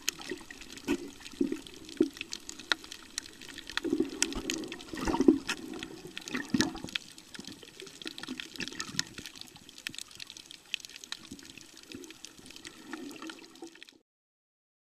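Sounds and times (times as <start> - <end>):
muffled underwater sloshing: 0.0 - 13.7
underwater clicks and crackles: 0.0 - 14.0.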